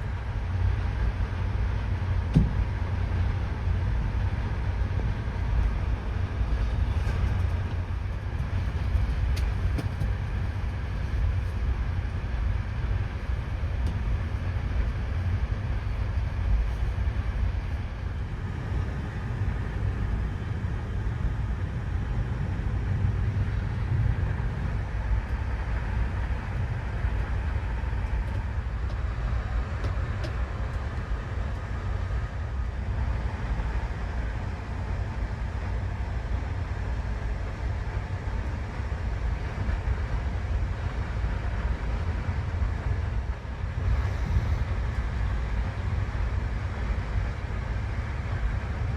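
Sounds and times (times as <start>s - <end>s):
passenger train rumbling: 0.0s - 48.9s.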